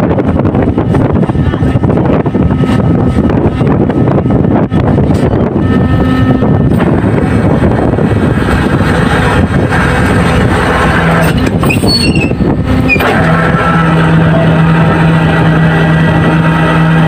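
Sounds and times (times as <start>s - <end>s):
boat engines and deck machinery: 0.0s - 17.0s
low hum: 0.0s - 17.0s.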